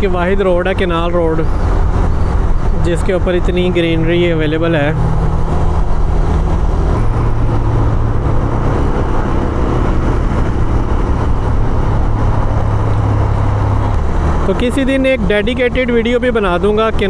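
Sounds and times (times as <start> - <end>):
road noise: 0.0 - 17.0
wind noise: 0.0 - 17.0
motorcycle engine running: 0.8 - 15.6.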